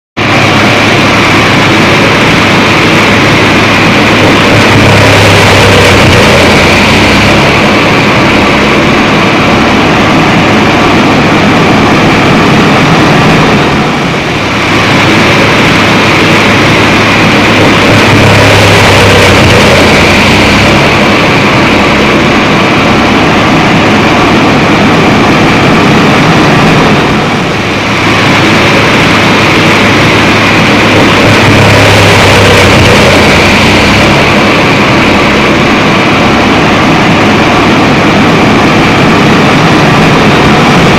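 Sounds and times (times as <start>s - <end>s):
wood chipper drone: 0.0s - 40.9s.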